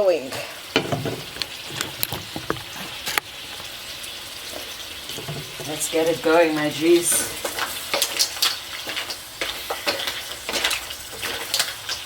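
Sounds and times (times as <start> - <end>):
mussels sizzling in a pot: 0.0 - 12.0
utensil clinking and scraping pot: 0.3 - 12.0.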